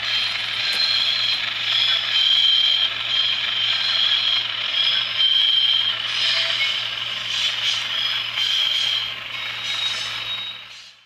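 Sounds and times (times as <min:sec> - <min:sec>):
diesel engine sound from tiny speaker: 0:00.0 - 0:11.0
model train motor whirring and clattering: 0:00.0 - 0:11.0.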